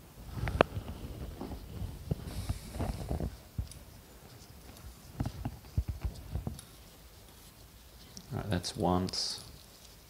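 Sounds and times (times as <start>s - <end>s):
rubber gloves rustling: 0.0s - 10.0s.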